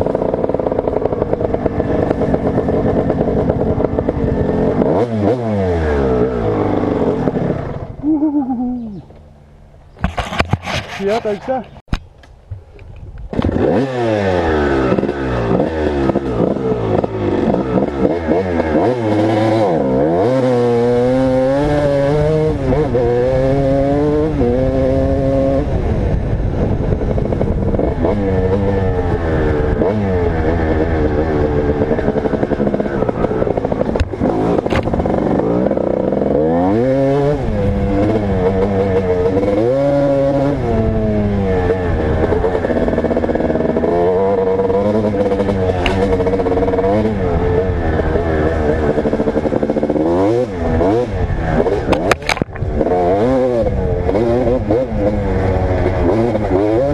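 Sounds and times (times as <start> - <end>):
dirt bike engine revving: 0.0 - 9.2, 13.3 - 56.9.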